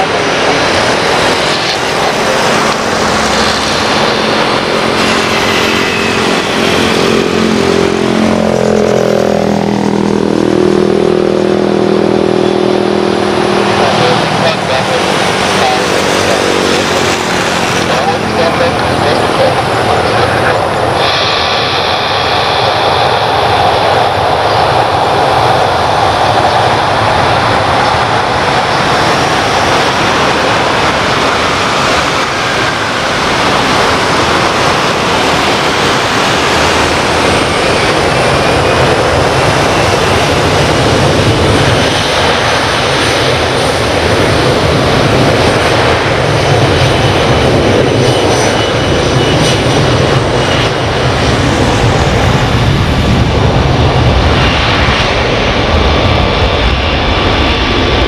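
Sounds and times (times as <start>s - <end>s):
faint engine whine: 0.0s - 58.0s
jet engines roaring at take-off: 0.0s - 58.0s.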